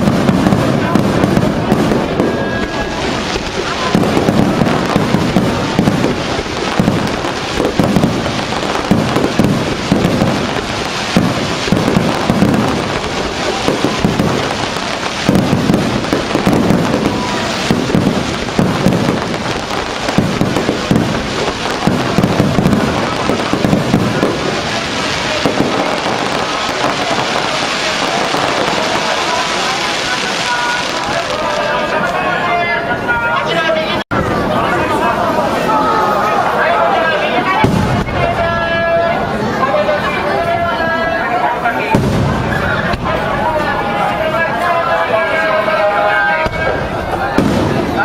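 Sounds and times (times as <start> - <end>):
fireworks booming and crackling: 0.0 - 48.0.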